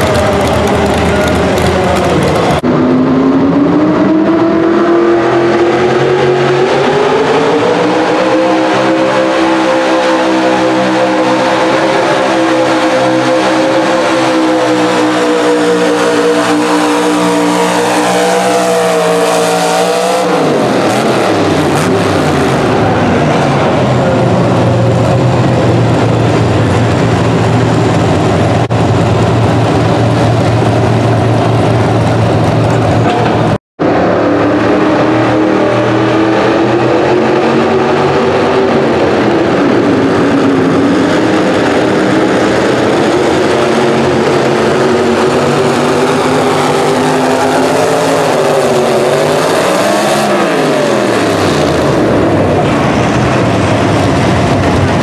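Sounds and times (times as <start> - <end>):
truck engine running steadily: 0.0 - 4.1, 14.4 - 36.4, 37.0 - 55.0
truck engine at full throttle: 0.0 - 55.0.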